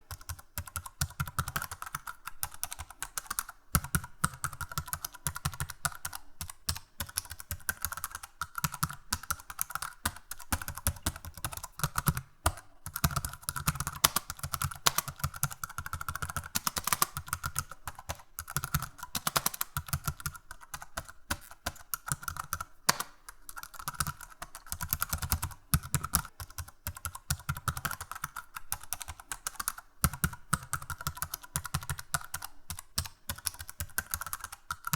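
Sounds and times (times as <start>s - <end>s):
computer keyboard typing: 0.0s - 34.9s.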